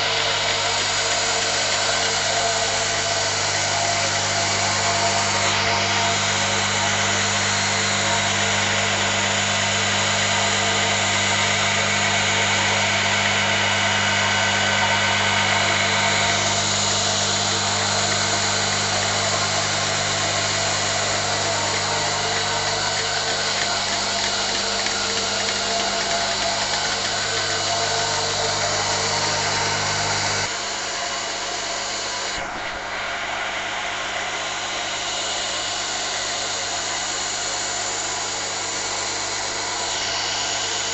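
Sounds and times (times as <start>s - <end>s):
vacuum pump mechanical hum: 0.0s - 40.9s.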